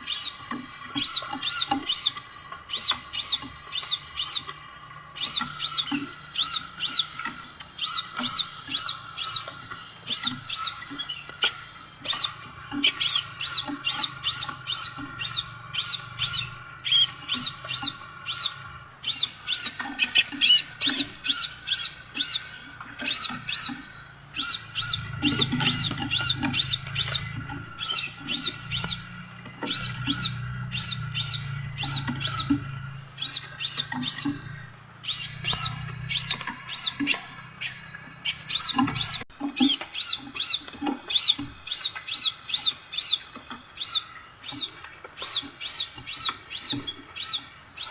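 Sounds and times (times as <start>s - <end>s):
bird song with rapid high notes: 0.0s - 47.9s.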